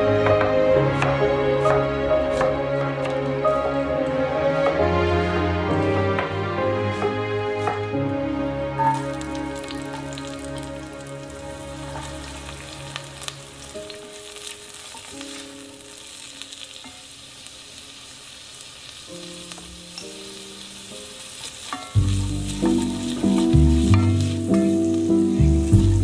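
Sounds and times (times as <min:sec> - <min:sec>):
onions sizzling in hot oil: 0:00.0 - 0:26.0
soft background music: 0:00.0 - 0:26.0.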